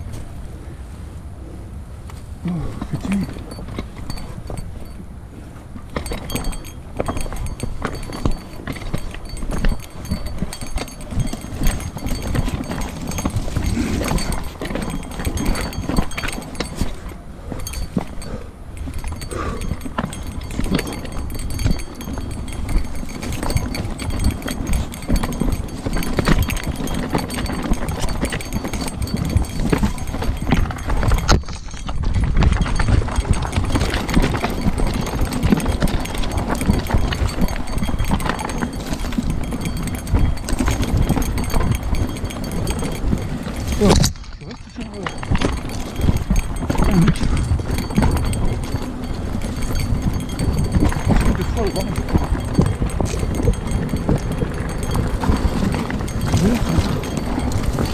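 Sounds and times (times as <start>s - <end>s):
wind rumble on microphone: 0.0s - 57.9s
bike clicks and knocks: 2.8s - 5.0s, 5.8s - 57.9s.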